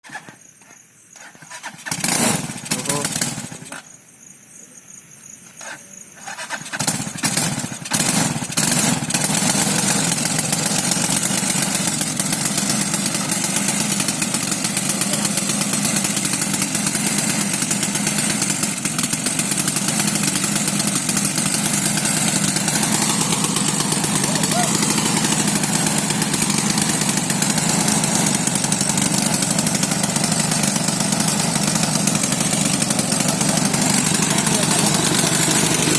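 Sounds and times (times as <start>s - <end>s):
quad bike engine starting and running: 0.0s - 4.0s, 5.4s - 35.9s.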